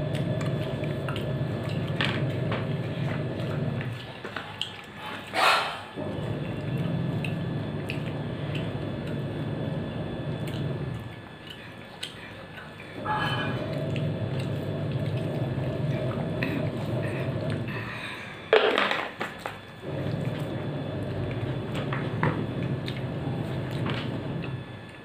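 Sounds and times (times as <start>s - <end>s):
soft chewing: 0.0s - 18.2s, 22.6s - 25.0s
steady low hum: 0.0s - 25.0s.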